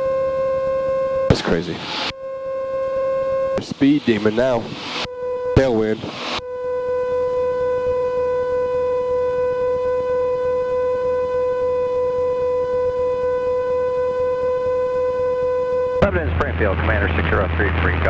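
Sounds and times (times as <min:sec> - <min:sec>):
steady reedy tone: 0:00.0 - 0:18.0.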